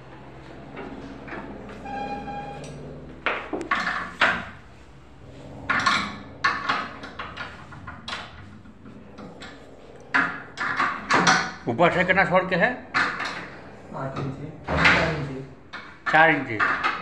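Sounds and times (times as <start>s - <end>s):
hard objects clattering and scraping: 0.0s - 17.0s.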